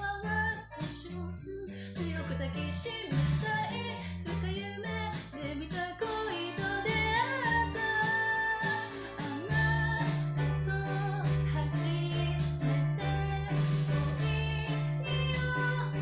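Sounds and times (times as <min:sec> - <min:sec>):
woman singing pop song: 0:00.0 - 0:16.0
band with walking bass: 0:02.0 - 0:16.0.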